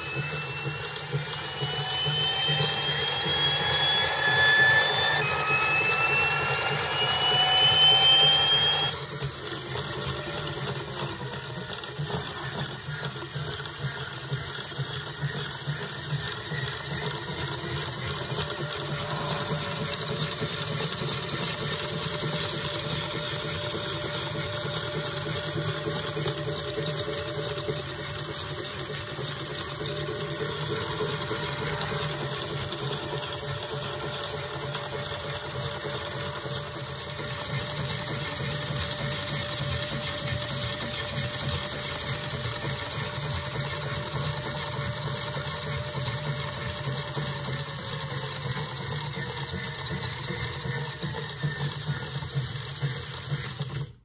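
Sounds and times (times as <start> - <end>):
model jet engine whine: 0.0 - 54.0.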